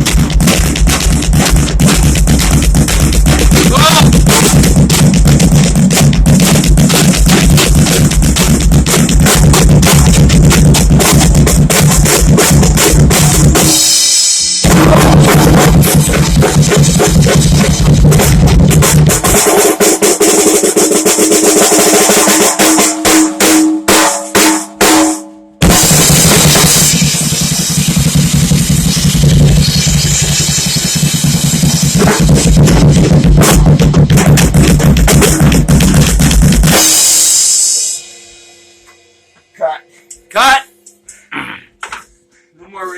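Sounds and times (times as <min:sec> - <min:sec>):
pounding kick drum: 0:00.0 - 0:19.9, 0:22.3 - 0:38.0
drum-heavy music: 0:00.0 - 0:42.9.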